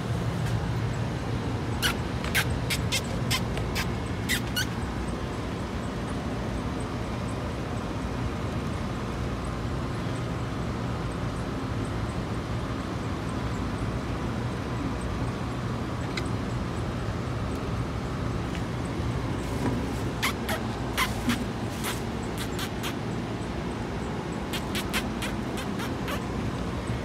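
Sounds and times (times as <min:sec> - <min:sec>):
distant traffic rumble: 0:00.0 - 0:27.0.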